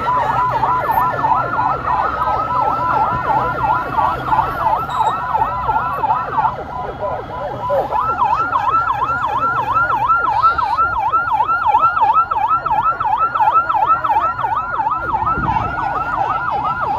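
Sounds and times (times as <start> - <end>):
electronic siren yelping: 0.0 - 16.9
engine and road noise rumble: 0.0 - 16.9.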